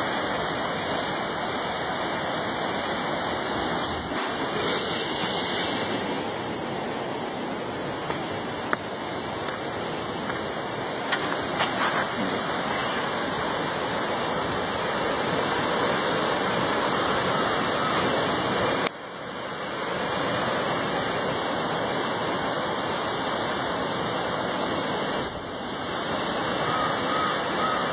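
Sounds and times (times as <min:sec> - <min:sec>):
surf washing over rocks: 0:00.0 - 0:27.9.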